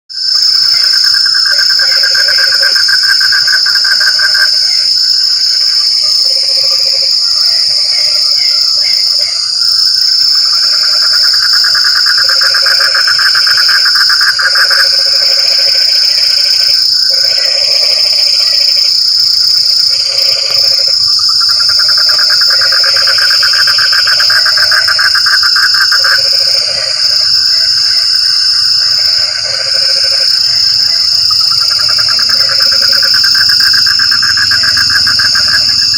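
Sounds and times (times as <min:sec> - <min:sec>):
frogs trilling: 0:00.1 - 0:35.9
high-pitched insect drone: 0:00.1 - 0:35.9
low frog croaks: 0:00.1 - 0:35.9.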